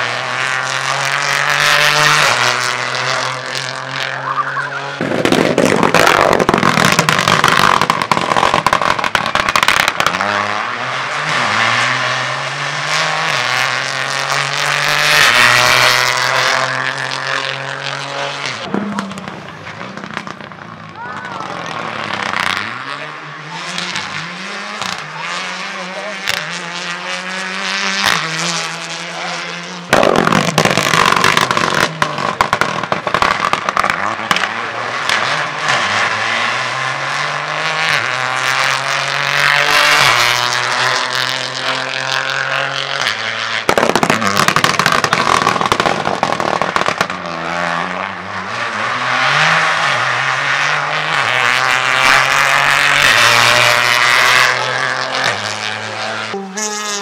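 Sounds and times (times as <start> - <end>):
car rushing past: 0.0 - 57.0
rally car engines revving: 0.0 - 57.0.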